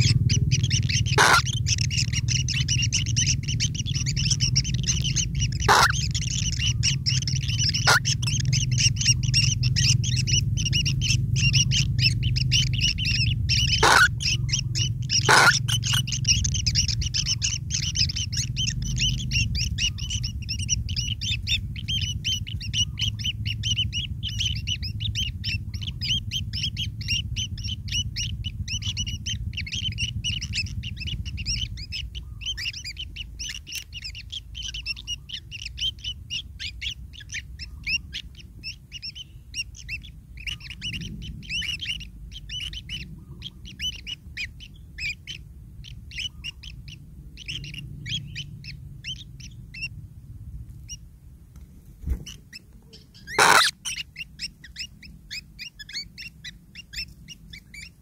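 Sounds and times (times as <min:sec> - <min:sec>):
low rumble: 0:00.0 - 0:58.0
nestlings chirping: 0:00.0 - 0:58.0.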